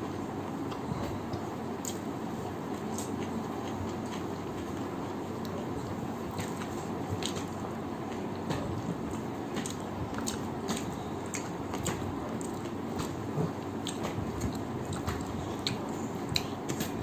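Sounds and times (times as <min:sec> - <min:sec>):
person chewing food: 0:02.7 - 0:17.0.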